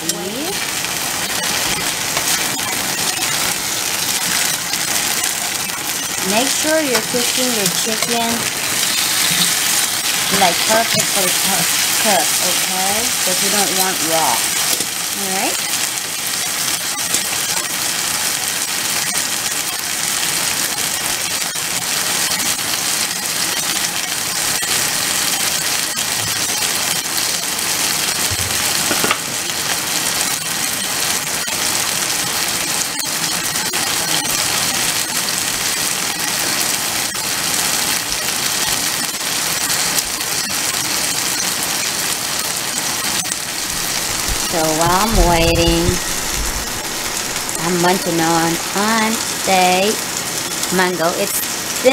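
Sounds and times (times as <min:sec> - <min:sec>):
meat sizzling in hot oil: 0:00.0 - 0:51.9.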